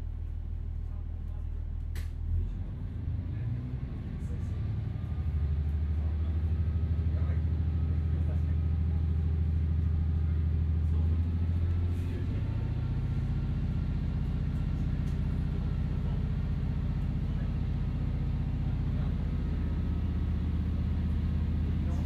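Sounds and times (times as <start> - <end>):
diesel engine drone: 0.0 - 22.0
wheel and rail noise: 3.3 - 22.0.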